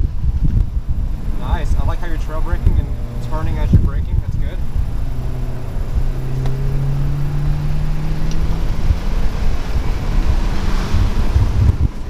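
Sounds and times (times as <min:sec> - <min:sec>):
car engine accelerating: 0:00.0 - 0:12.0
road and tyre noise: 0:00.0 - 0:12.0.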